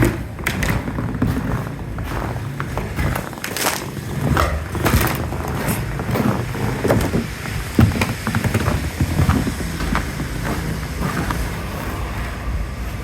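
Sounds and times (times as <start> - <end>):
crunches and knocks: 0.0 - 13.0
wind rumbling on microphone: 0.0 - 13.0.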